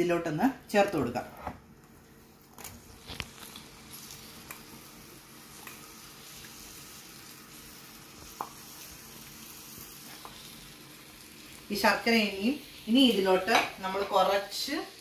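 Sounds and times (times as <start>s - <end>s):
jaggery bubbling and sizzling: 0.7s - 15.0s.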